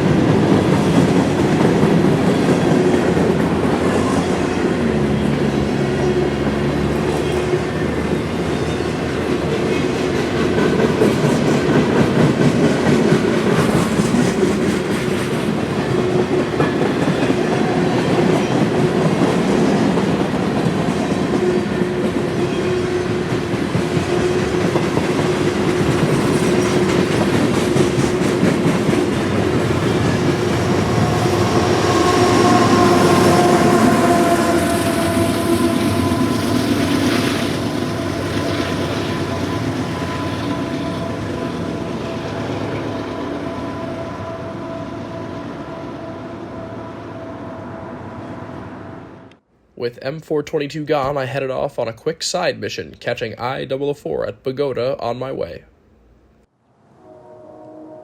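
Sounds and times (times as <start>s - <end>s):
freight train rumbling past: 0.0s - 49.4s.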